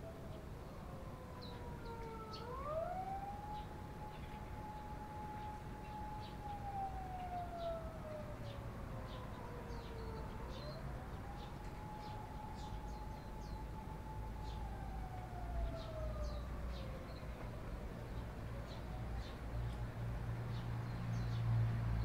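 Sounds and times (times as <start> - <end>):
siren wailing: 0.0 - 17.7
sparrows chirping: 0.3 - 21.6.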